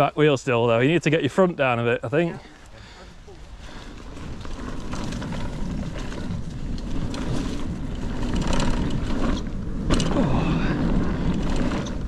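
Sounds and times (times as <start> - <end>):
bike tyres rolling on dirt: 0.0 - 12.0.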